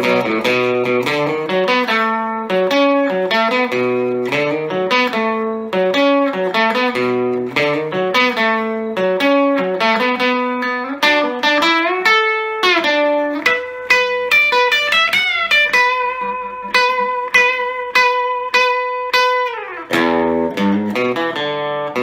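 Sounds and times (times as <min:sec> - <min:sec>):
electric guitar melodic line: 0:00.0 - 0:22.0.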